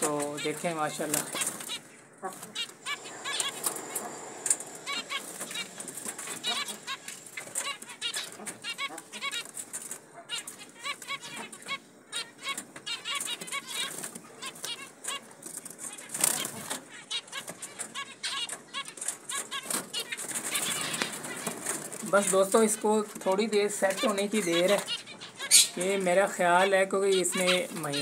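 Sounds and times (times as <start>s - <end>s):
finches beeping calls: 0.0s - 9.6s, 10.2s - 15.2s, 15.8s - 28.0s.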